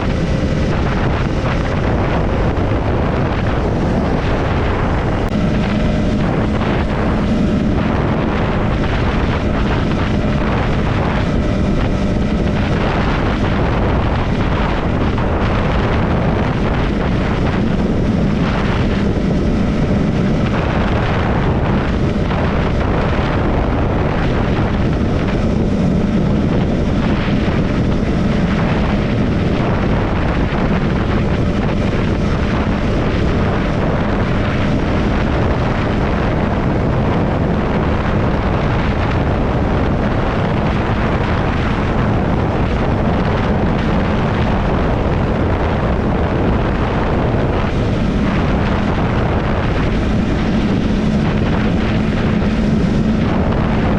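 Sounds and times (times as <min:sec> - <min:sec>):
motorcycle engine cruising: 0:00.0 - 0:53.9
wind noise on microphone: 0:00.0 - 0:53.9.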